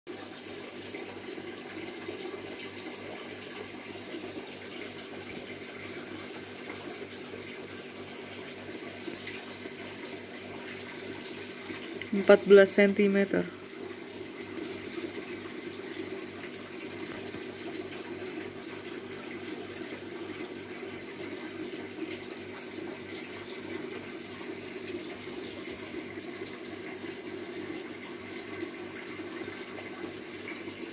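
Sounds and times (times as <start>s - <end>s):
aquarium water rushing: 0.1s - 30.9s.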